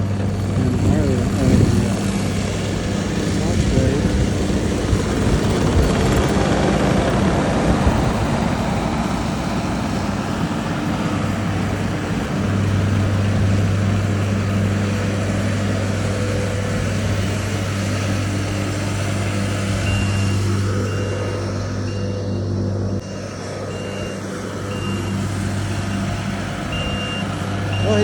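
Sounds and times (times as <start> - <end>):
earthmoving equipment engine running: 0.0 - 28.0.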